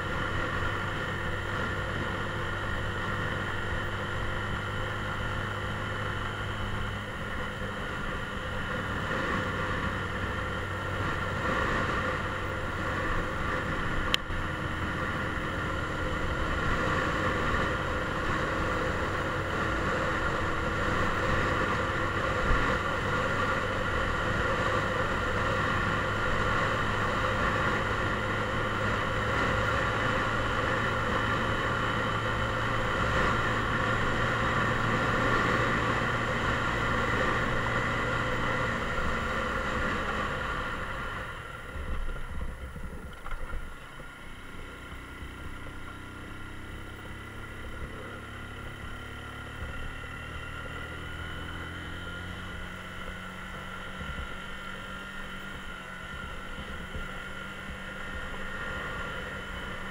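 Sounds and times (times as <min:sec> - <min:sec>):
motorcycle engine drone: 0:00.0 - 0:59.9
road and wind noise: 0:00.0 - 0:59.9.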